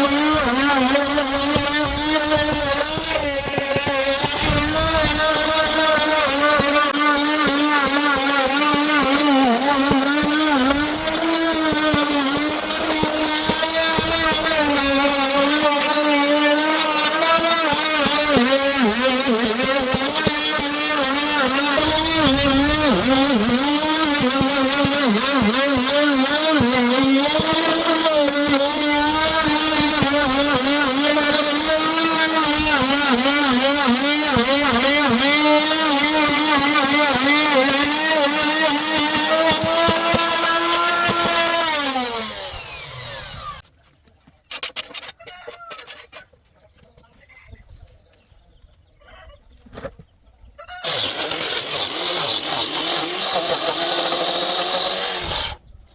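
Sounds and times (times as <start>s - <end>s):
power tool cutting wood: 0.0s - 43.6s, 50.8s - 55.6s.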